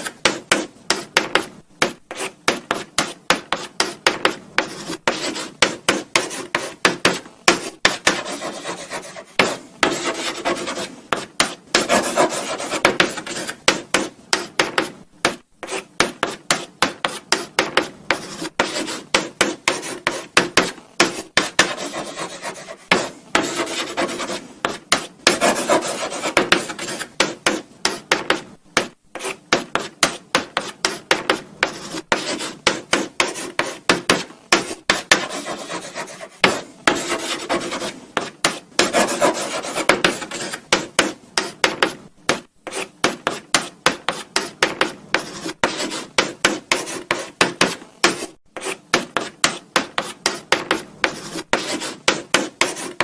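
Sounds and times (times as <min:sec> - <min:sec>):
chalk scratching on blackboard: 0:00.0 - 0:53.0.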